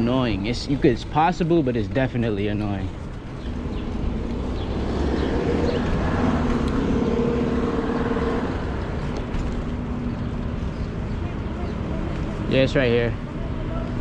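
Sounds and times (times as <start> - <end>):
traffic rumble: 0.0 - 14.0
vehicle engine hum: 0.0 - 14.0.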